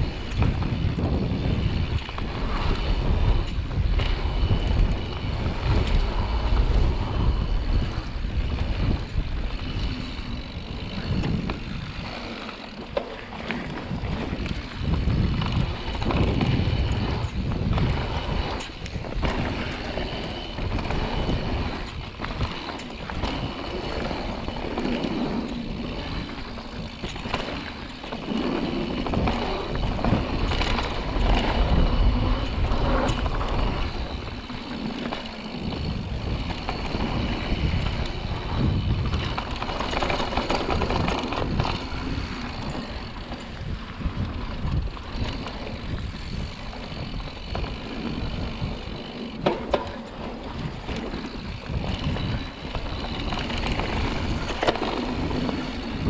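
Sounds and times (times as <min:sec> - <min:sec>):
bike rattling: 0:00.0 - 0:56.0
tyres rumbling over dirt: 0:00.0 - 0:56.0
wind on microphone: 0:00.0 - 0:56.0.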